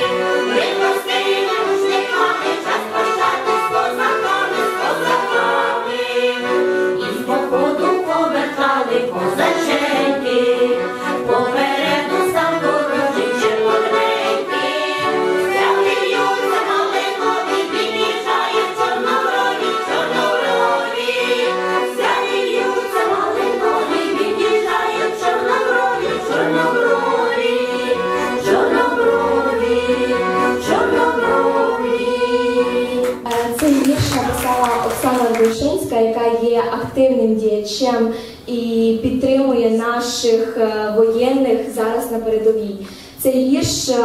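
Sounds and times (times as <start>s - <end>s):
women's choir singing: 0.0s - 35.5s
accordion: 0.0s - 36.4s.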